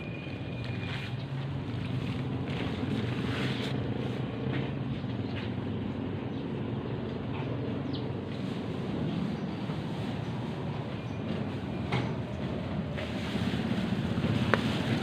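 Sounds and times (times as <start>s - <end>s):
vehicle rumble in motion: 0.0s - 15.0s.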